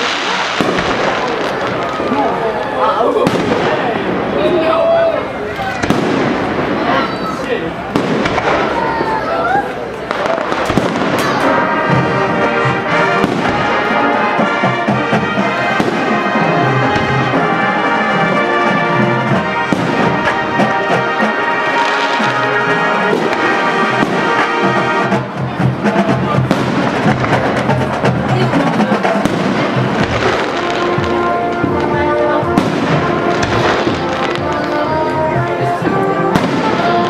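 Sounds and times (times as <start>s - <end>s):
brass and percussion music: 0.0s - 37.0s
fireworks banging and crackling: 0.0s - 37.0s.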